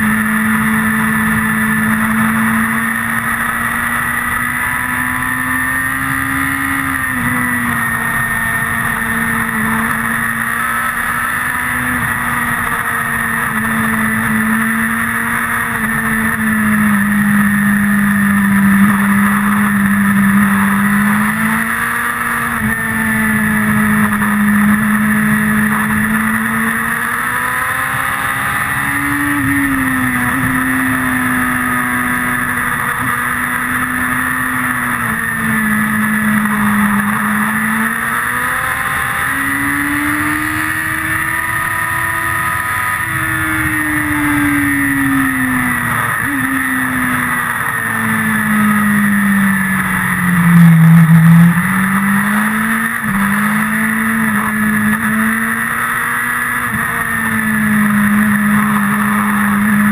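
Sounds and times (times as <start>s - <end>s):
motorcycle engine revving high: 0.0s - 59.9s.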